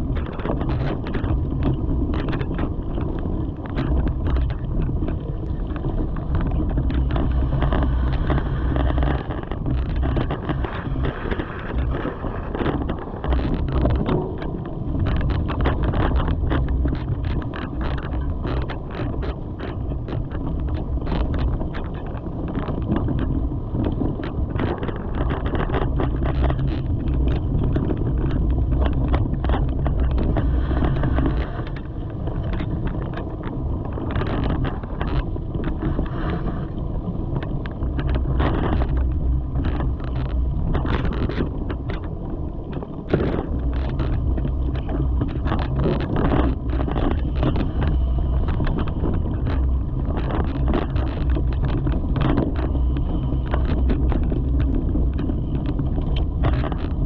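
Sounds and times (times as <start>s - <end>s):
bike clicks and rattles: 0.0s - 36.1s, 36.8s - 57.0s
wind rumbling on microphone: 0.0s - 57.0s.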